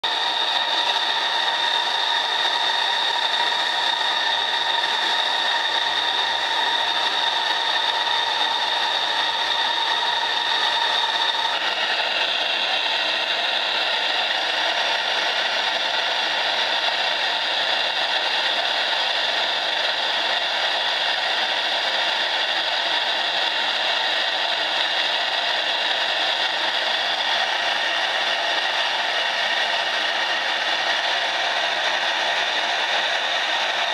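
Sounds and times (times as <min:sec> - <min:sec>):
model steam engine whirring hiss: 0:00.0 - 0:33.9.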